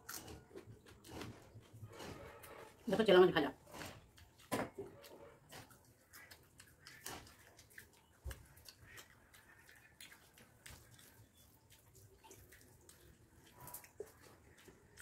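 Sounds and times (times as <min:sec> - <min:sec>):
wet chewing and lip sounds: 0:00.0 - 0:02.8, 0:03.6 - 0:15.0.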